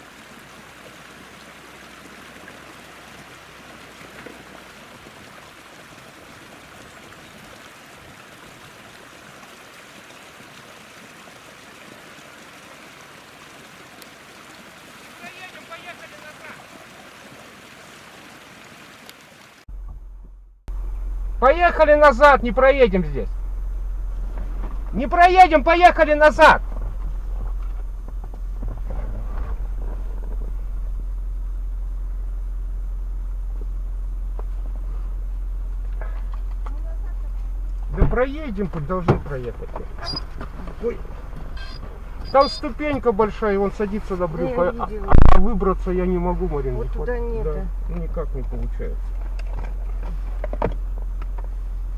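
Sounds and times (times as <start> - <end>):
vehicle engine rumble from inside: 0.0 - 9.8, 19.7 - 51.9
stream water rushing: 0.0 - 19.7, 24.2 - 31.4, 34.4 - 51.8.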